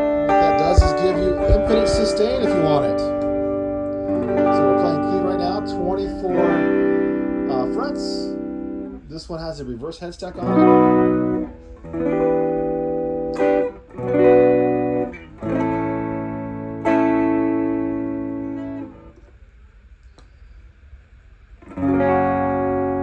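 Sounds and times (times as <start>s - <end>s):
clean electric guitar chords: 0.0s - 19.2s, 21.6s - 23.0s
faint amp hiss: 0.0s - 23.0s.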